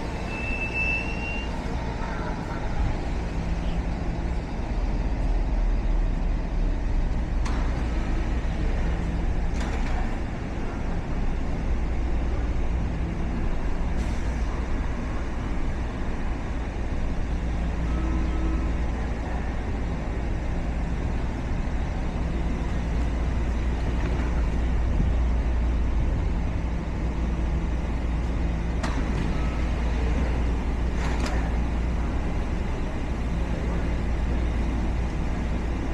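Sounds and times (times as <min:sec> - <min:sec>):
railcar rumble and hum: 0:00.0 - 0:35.9.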